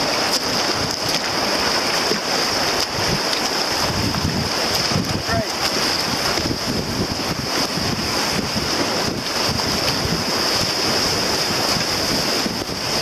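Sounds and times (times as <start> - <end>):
whitewater rapids rushing: 0.0 - 13.0
wind buffeting microphone: 0.0 - 13.0.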